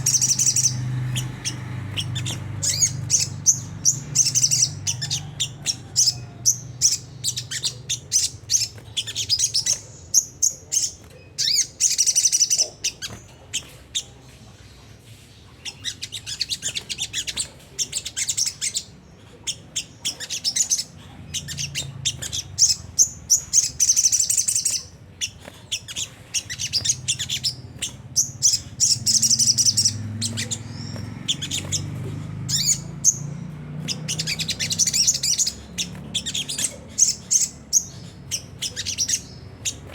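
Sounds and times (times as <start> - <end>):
bird chattering calls: 0.0 - 14.4, 15.5 - 39.9.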